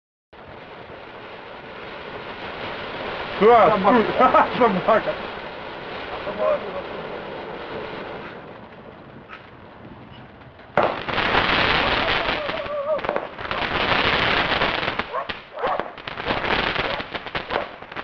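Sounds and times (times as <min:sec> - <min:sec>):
firework bang: 0:00.4 - 0:18.0
fireworks crackling shots and bursts: 0:00.4 - 0:18.0.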